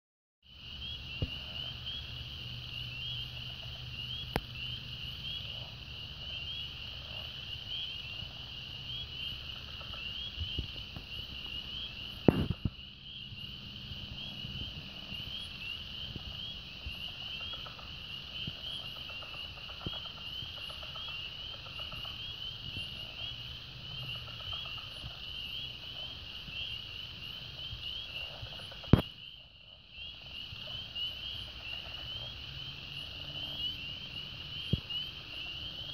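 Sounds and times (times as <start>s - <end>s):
frogs calling: 0.5s - 35.9s.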